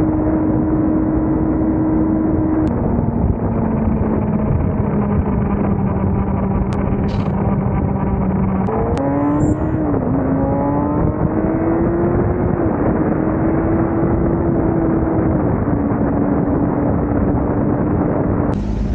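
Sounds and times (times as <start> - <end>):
motorcycle engine running: 0.0 - 18.9
wind noise: 0.0 - 18.9.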